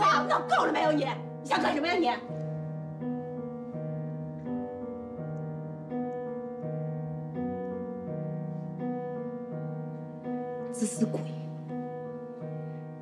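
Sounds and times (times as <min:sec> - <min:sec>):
piano held chords: 0:00.0 - 0:13.0.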